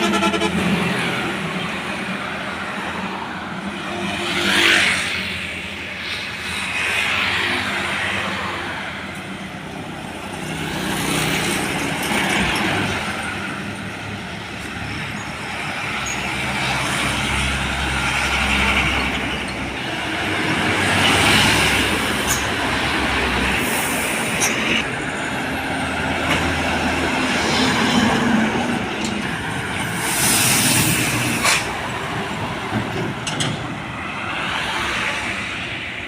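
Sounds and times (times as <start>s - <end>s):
road traffic passing: 0.0s - 36.0s.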